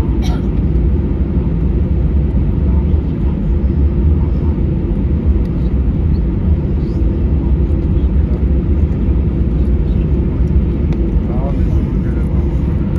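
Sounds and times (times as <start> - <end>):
airliner cabin engine rumble: 0.0 - 12.9.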